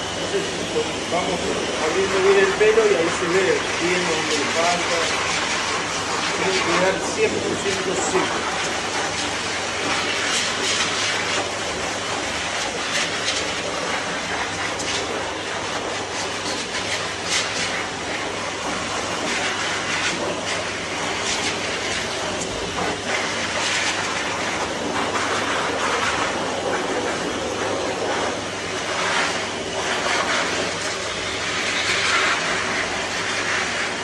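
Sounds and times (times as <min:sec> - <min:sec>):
pet blower dryer rushing air: 0:00.0 - 0:34.0.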